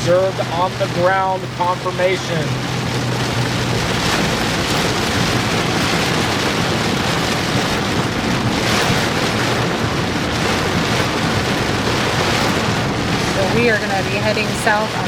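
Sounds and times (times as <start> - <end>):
heavy rain on vehicle roof: 0.0 - 15.0
vehicle noise: 0.0 - 15.0
wind: 0.0 - 15.0.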